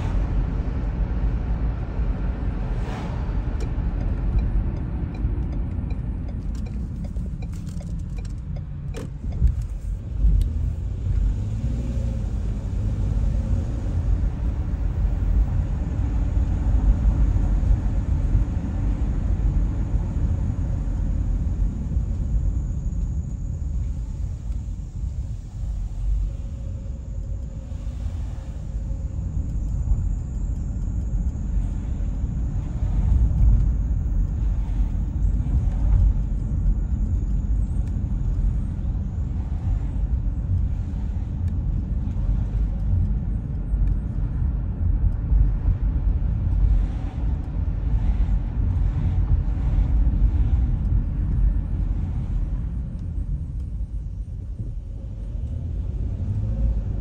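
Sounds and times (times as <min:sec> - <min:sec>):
engine and tyre road rumble: 0:00.0 - 0:57.0.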